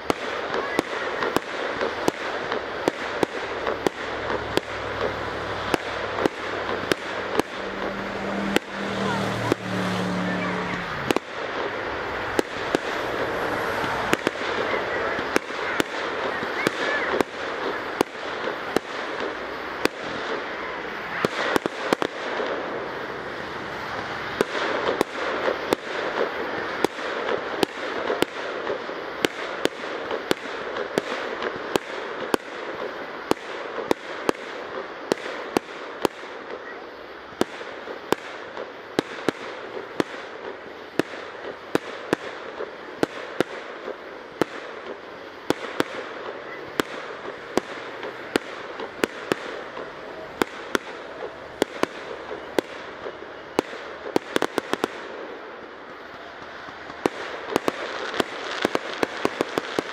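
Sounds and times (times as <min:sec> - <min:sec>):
firework shells bursting: 0:00.0 - 0:36.6, 0:37.3 - 0:59.9.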